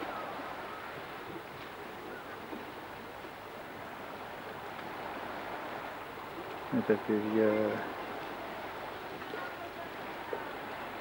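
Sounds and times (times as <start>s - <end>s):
sea waves washing on shore: 0.0s - 11.0s
wind: 0.0s - 11.0s.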